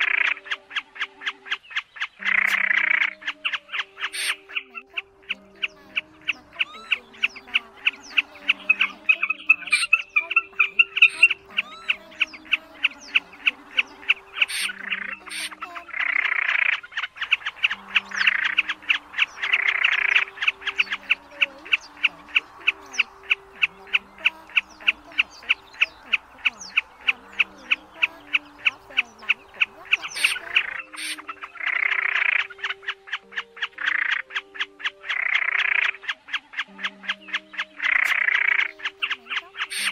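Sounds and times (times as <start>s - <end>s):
faint music with low notes: 0.0s - 39.9s
harsh rasping bird calls: 0.0s - 39.9s
sharp ticking bird calls: 0.0s - 39.9s.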